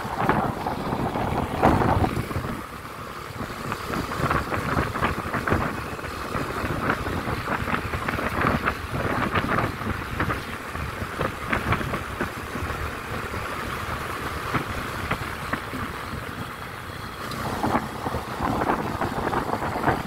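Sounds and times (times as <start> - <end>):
low steady vehicle rumble: 0.0 - 20.0
wind buffeting microphone: 0.0 - 20.0.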